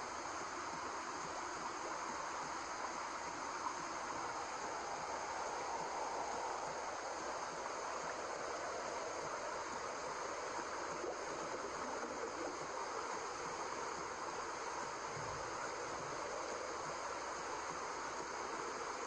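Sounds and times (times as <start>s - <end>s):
steady white noise hiss: 0.0s - 19.0s.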